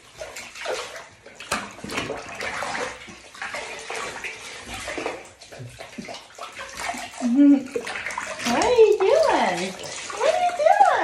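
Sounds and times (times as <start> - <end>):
water splashing into bathtub: 0.0 - 11.0.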